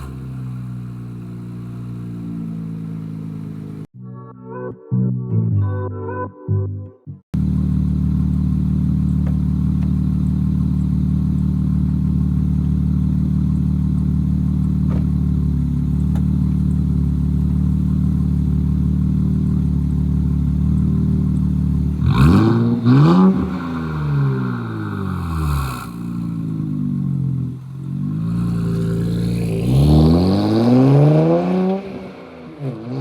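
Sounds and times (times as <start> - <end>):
car engine idling: 0.0 - 3.9, 7.4 - 33.0
engine rev: 0.0 - 3.9, 7.4 - 33.0.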